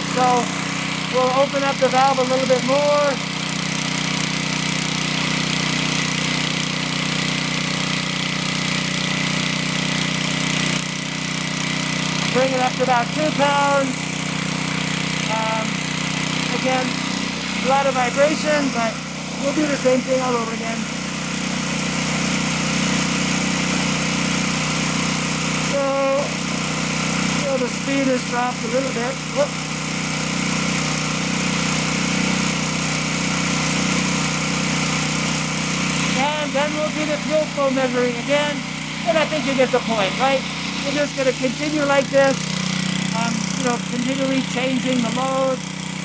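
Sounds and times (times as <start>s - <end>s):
engine running under load: 0.0s - 46.0s.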